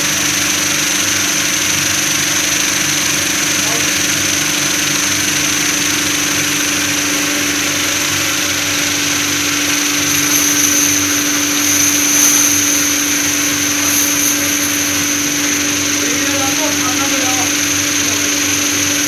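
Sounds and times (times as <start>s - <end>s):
motor hum: 0.0s - 19.0s
polishing media churning hiss: 3.5s - 19.0s.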